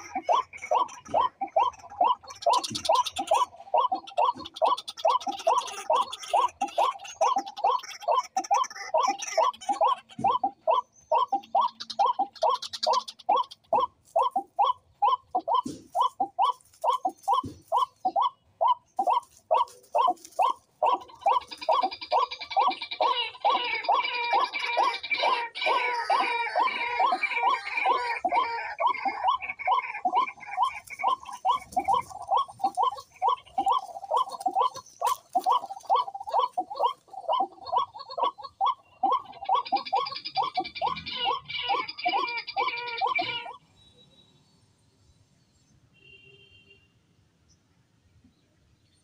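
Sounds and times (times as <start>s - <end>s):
bird calling in arched notes: 0.0s - 43.6s.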